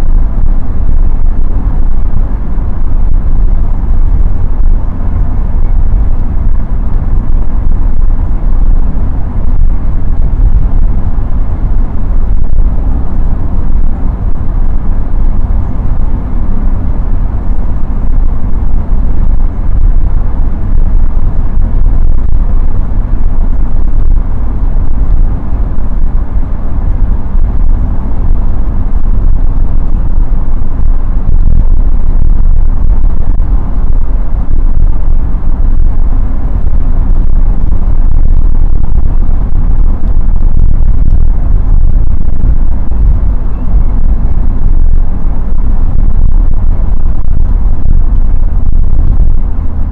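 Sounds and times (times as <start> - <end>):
car engine rumble: 0.0 - 49.9
tyres on road: 0.0 - 49.9.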